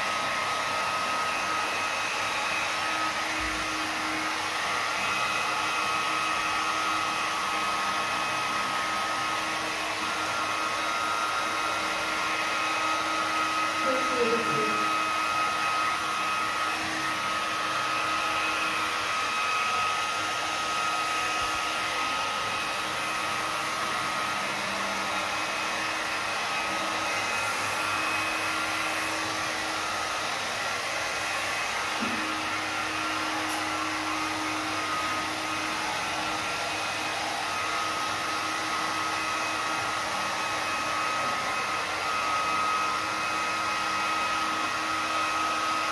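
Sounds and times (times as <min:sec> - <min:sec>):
hair dryer running: 0:00.0 - 0:45.9.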